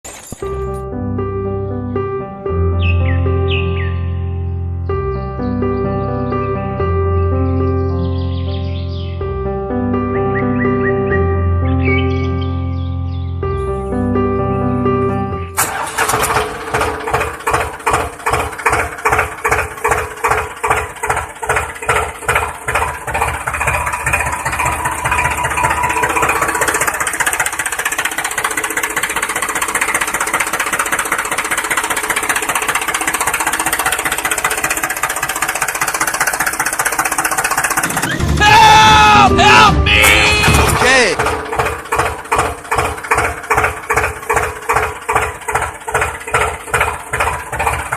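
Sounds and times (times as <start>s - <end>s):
diesel engine chugging: 0.2s - 47.9s.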